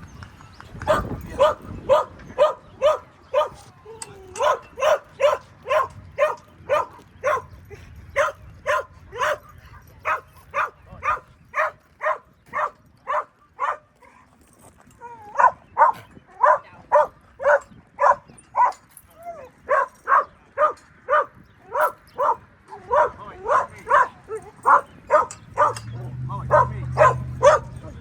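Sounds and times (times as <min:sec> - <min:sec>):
dog barking: 0:00.8 - 0:03.6, 0:04.4 - 0:07.6, 0:08.2 - 0:13.9, 0:15.3 - 0:18.8, 0:19.6 - 0:28.0.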